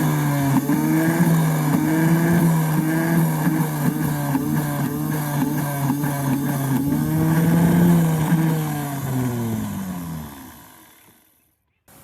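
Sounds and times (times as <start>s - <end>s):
starter motor whine: 0.0s - 11.4s.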